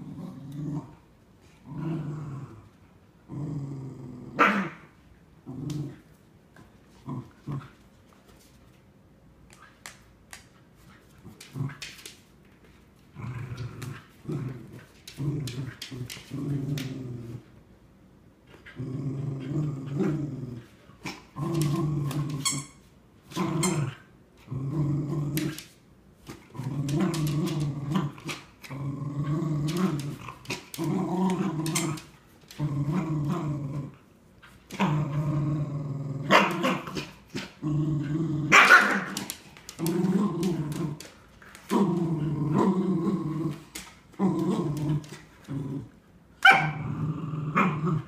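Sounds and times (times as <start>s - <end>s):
dogs growling in play: 0.0s - 8.0s, 11.1s - 12.1s, 13.1s - 17.7s, 18.4s - 48.0s.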